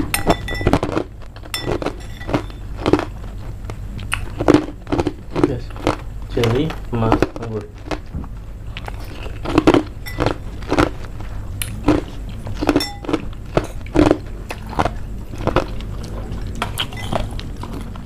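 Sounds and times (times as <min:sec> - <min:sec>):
crunchy chewing of food: 0:00.0 - 0:18.0.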